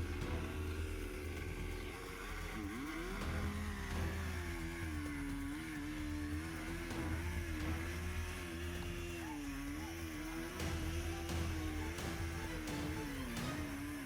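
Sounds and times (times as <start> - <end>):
engine revving: 0.0 - 14.0
steady low hum: 0.0 - 14.0.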